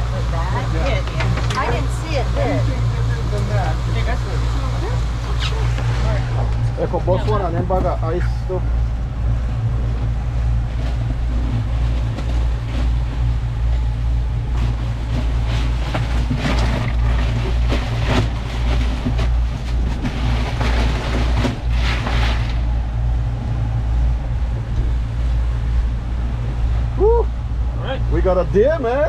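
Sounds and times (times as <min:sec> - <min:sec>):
boat motor droning: 0:00.0 - 0:29.0
rushing noise: 0:01.3 - 0:29.0.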